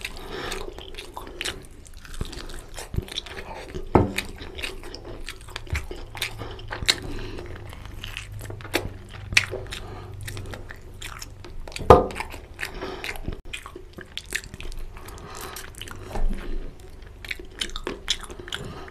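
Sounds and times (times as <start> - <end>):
person chewing and crunching food: 0.0 - 18.9.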